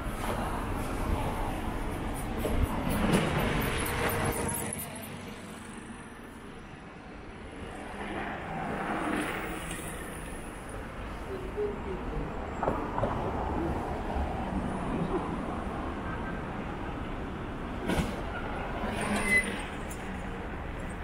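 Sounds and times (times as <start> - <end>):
cars passing: 0.0 - 18.8.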